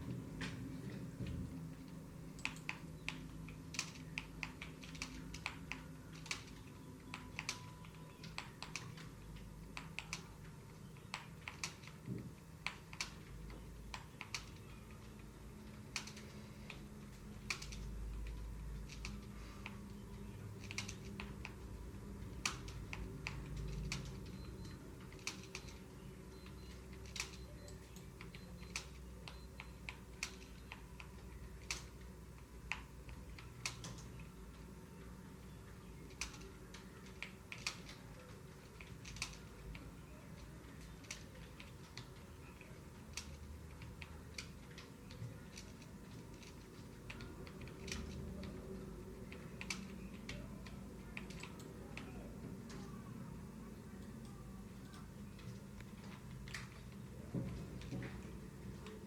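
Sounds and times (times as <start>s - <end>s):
computer keyboard typing: 0.0s - 59.0s
low steady hum: 0.0s - 59.0s.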